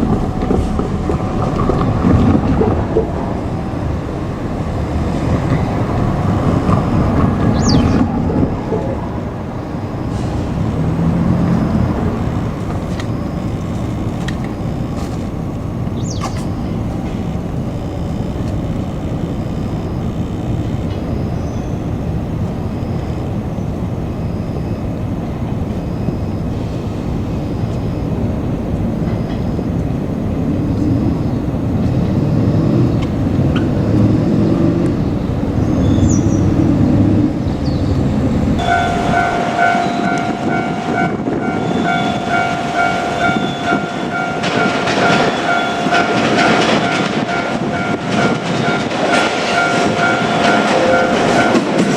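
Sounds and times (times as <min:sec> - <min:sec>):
electric train running: 0:00.0 - 0:51.9
level crossing warning bell: 0:00.0 - 0:51.9.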